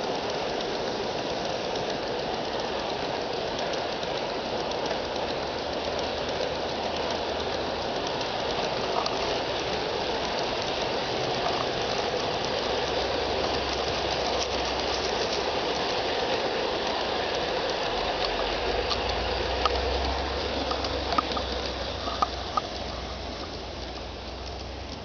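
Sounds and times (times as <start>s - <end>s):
faint wheel clicks: 0.0s - 25.0s
model train cars rumbling on track: 0.0s - 25.0s.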